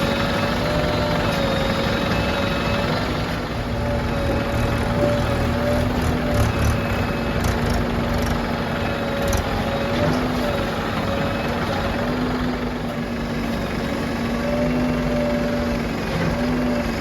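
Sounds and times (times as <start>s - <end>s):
heavy machinery diesel engine: 0.0s - 17.0s.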